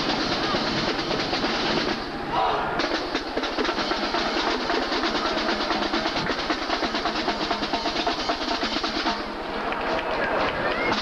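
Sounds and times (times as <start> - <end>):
drumline playing fast cadence: 0.0 - 11.0.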